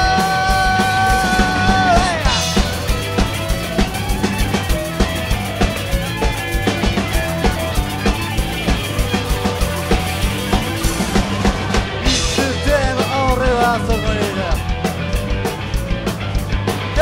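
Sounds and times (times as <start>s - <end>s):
drum kit beat: 0.0s - 17.0s
electric guitars: 0.0s - 17.0s
sliding bending guitar melody: 1.2s - 17.0s.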